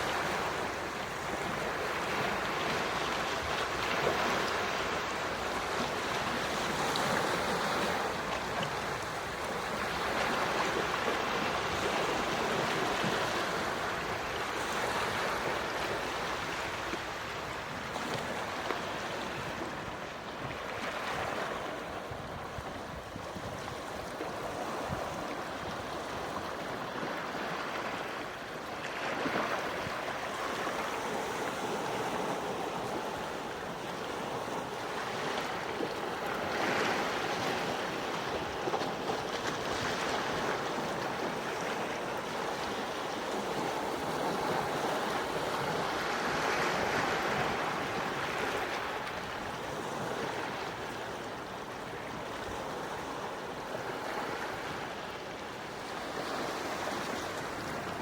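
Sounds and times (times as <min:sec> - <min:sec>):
gentle waves washing onto shore: 0:00.0 - 0:58.0.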